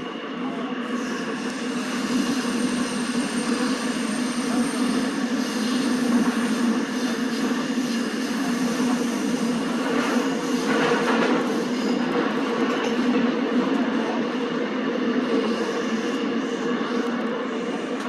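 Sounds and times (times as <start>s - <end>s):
subway train rumble and hum: 0.0s - 18.0s.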